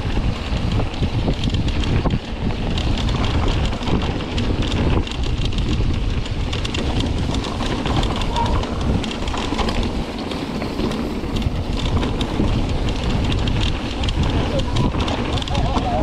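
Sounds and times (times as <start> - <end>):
bike clicks and rattles: 0.0 - 16.0
bike tyres rolling over dirt: 0.0 - 16.0
wind buffeting microphone: 0.0 - 16.0.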